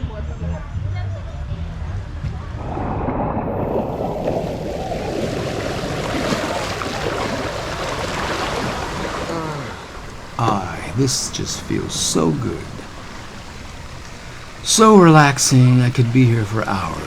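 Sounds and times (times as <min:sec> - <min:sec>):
water sloshing and splashing: 0:02.6 - 0:09.3, 0:10.0 - 0:17.0.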